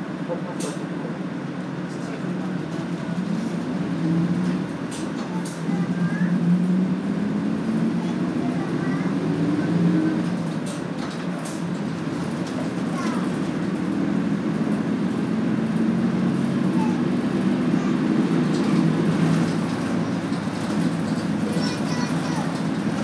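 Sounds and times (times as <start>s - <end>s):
bus engine humming: 0.0s - 23.0s
road noise: 0.0s - 23.0s.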